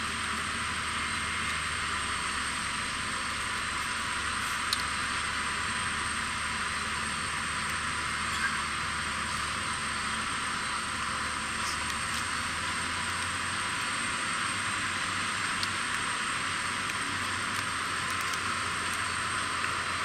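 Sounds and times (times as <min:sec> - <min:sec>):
high-pitched turbine whine: 0:00.0 - 0:20.0.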